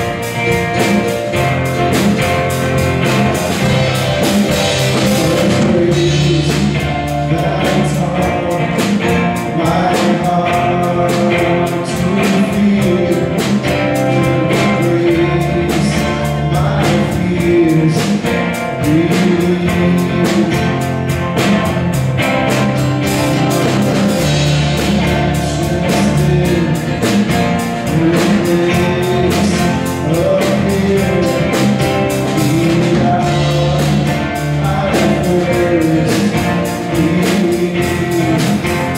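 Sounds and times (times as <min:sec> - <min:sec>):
drums: 0:00.0 - 0:38.9
keyboard: 0:00.0 - 0:38.9
person singing: 0:00.0 - 0:38.9.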